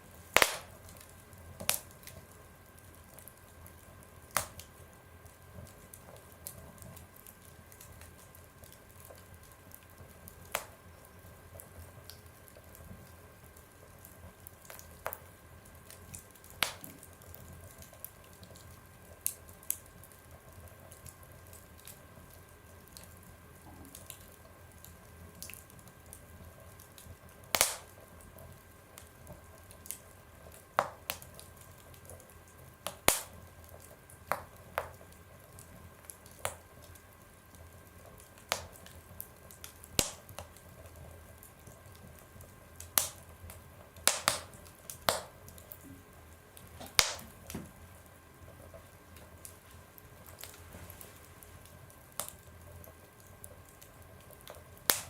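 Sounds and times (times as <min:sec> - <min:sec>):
wood fire crackling in a stove: 0:00.0 - 0:55.0.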